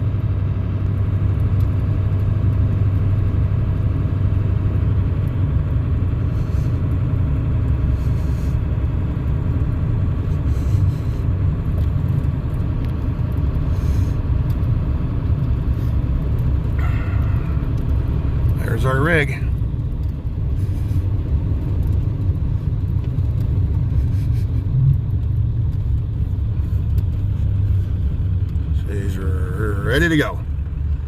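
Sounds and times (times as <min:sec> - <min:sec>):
vehicle engine and road rumble: 0:00.0 - 0:31.0.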